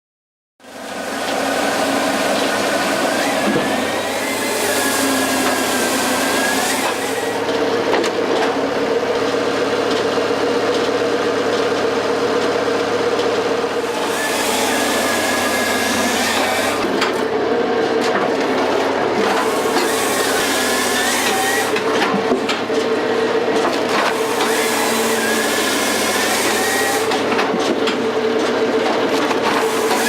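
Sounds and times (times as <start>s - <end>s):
log splitter machine drone: 0.6s - 30.0s.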